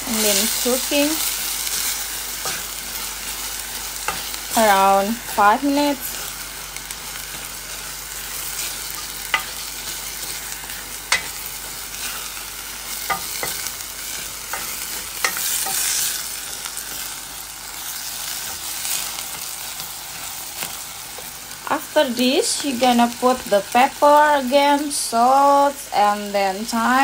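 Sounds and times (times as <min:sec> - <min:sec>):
meat and vegetables sizzling: 0:00.0 - 0:27.0.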